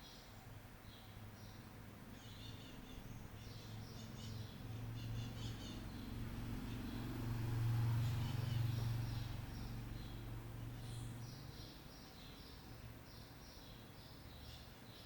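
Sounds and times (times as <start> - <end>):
small birds chirping: 0.0 - 7.1, 7.9 - 15.0.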